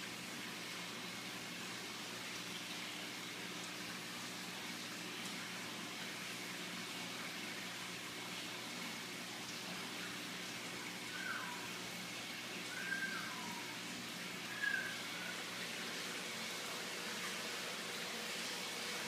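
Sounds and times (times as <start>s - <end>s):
equipment hiss and hum: 0.0s - 19.0s.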